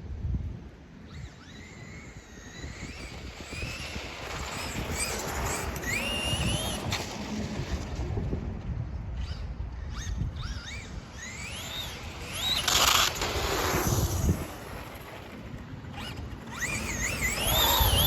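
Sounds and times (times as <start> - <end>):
rc car electric motor whining: 1.0 - 8.0, 9.2 - 18.0.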